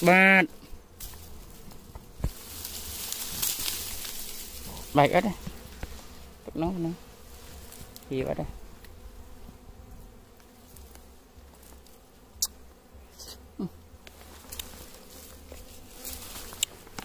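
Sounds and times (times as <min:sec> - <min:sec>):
bee flying past: 0:00.0 - 0:17.0
bees buzzing: 0:00.0 - 0:17.0.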